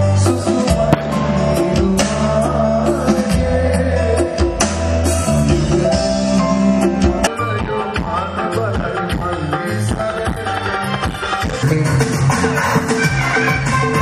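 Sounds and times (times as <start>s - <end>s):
heavy bass line: 0.0s - 12.3s
drums: 0.0s - 14.0s.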